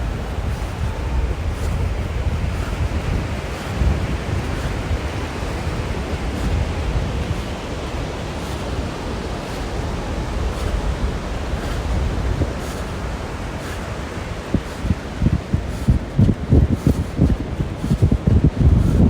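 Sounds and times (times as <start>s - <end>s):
ocean surf on a beach: 0.0s - 19.0s
wind buffeting microphone: 0.0s - 19.0s.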